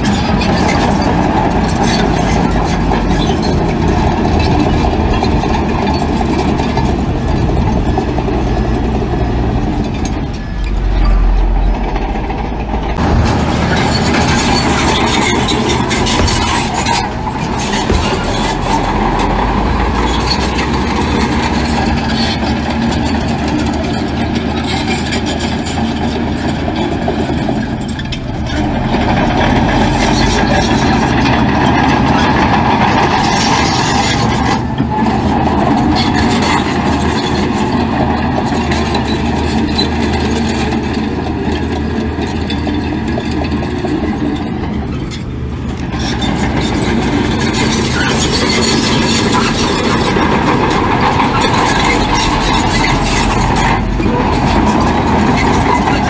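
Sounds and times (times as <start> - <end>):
heavy diesel engine of machinery: 0.0 - 56.0.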